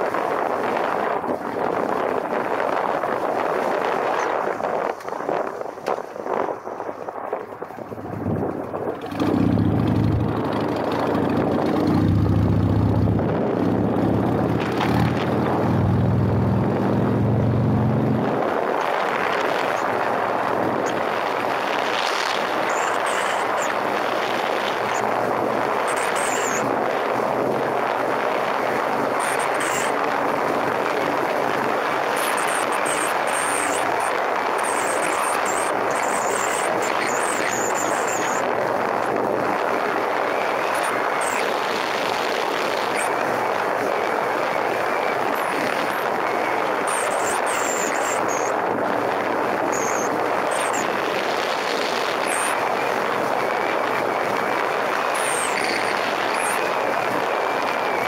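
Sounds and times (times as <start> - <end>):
motorcycle engine drone: 0.0 - 58.0
wind noise over camera: 0.0 - 58.0.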